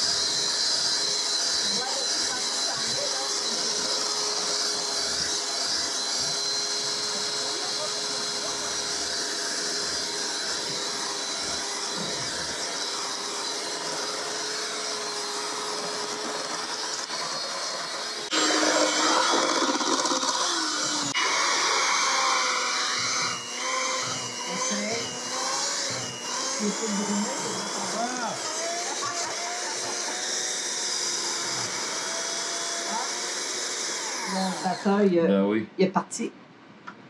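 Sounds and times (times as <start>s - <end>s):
electric hand mixer labouring: 0.0s - 35.1s.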